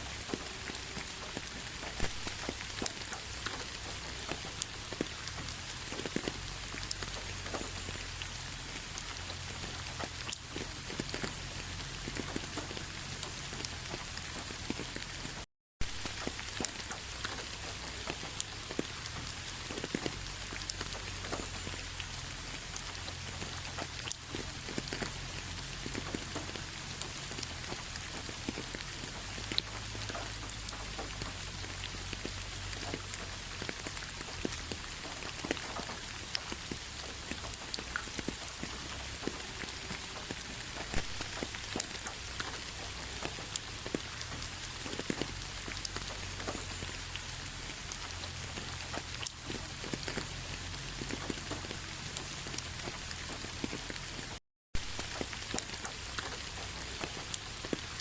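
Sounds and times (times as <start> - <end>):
raindrops clicking on surface: 0.0 - 58.0
steady rain hiss: 0.0 - 58.0.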